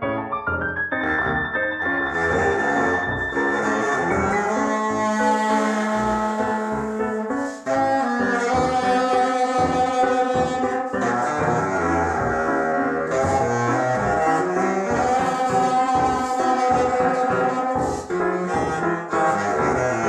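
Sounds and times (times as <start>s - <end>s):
sustained pitched tones: 1.0s - 20.0s
saxophone long held notes: 2.0s - 20.0s.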